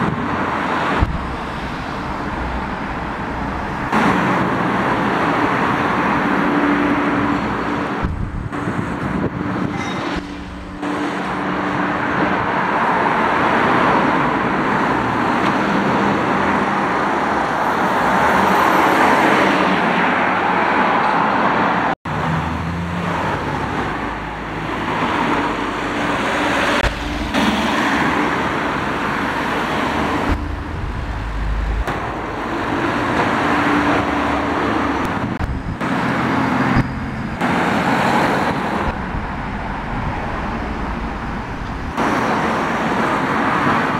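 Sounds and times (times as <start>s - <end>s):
street traffic passing: 0.0s - 43.9s.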